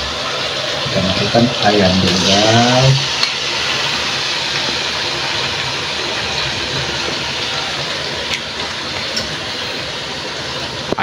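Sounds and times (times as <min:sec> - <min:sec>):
paste sizzling in a pot: 0:00.0 - 0:11.0.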